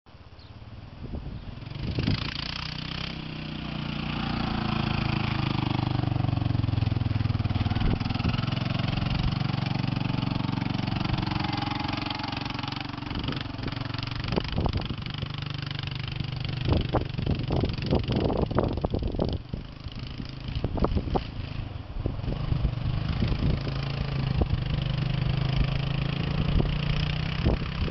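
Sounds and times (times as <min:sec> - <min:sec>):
quad bike engine running: 0:00.4 - 0:27.9.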